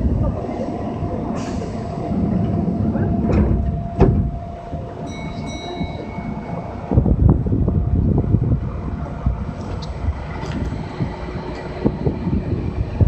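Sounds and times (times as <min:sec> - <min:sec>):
high steady whine: 0:00.0 - 0:13.0
train running rumble: 0:00.0 - 0:13.0.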